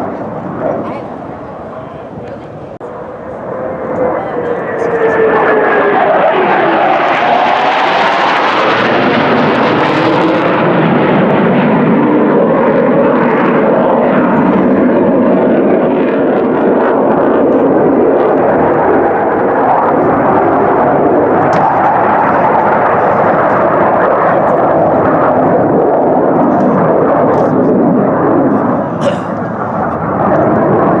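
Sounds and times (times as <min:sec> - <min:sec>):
airplane engine passing: 0:00.0 - 0:31.0.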